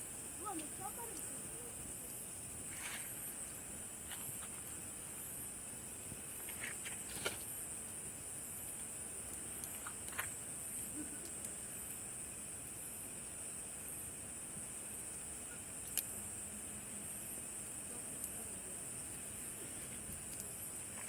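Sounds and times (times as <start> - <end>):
campfire wood crackling and popping: 0.0 - 21.0
night insects chorus: 0.0 - 21.0.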